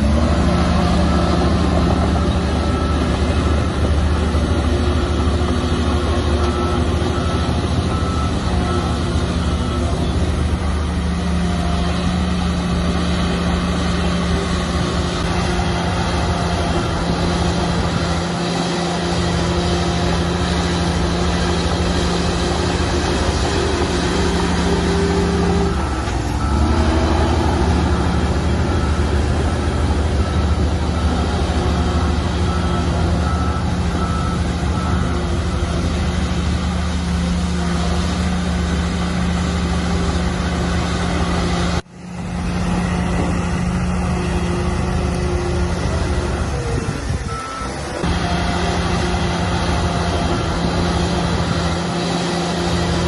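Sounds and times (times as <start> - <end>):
reversing alarm beeping: 0.0 - 41.8, 43.1 - 53.0
diesel engine running under load: 0.0 - 53.0.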